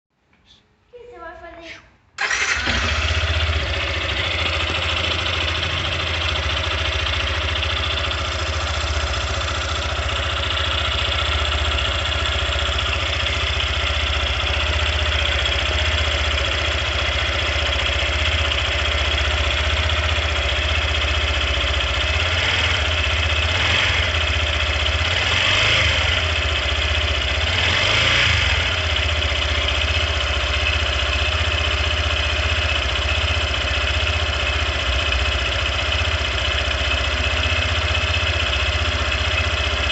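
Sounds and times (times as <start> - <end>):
engine high clatter: 2.2 - 39.9
motorcycle engine idling: 2.2 - 39.9.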